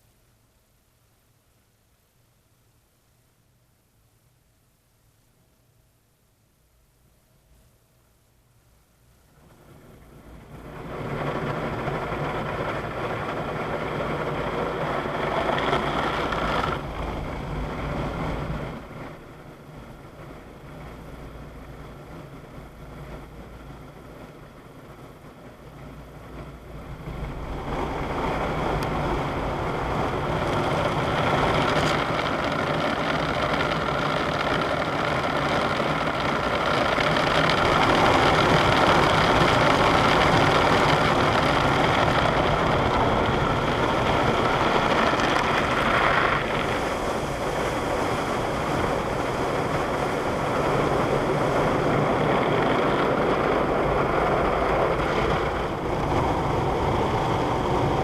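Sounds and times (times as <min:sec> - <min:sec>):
automatic car wash water spray: 0:09.1 - 0:58.0.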